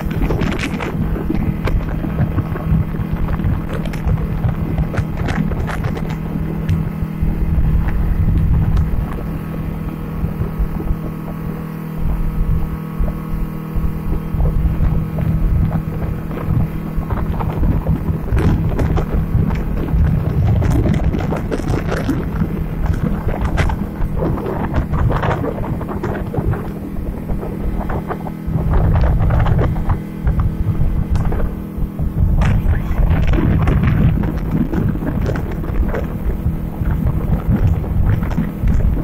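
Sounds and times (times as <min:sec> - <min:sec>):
outboard motor running: 0:00.0 - 0:39.0
wind buffeting microphone: 0:00.0 - 0:39.0.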